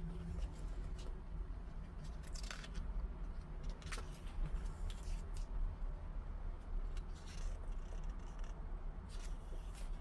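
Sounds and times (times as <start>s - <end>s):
book pages rustling: 0.2s - 5.6s, 6.9s - 10.0s.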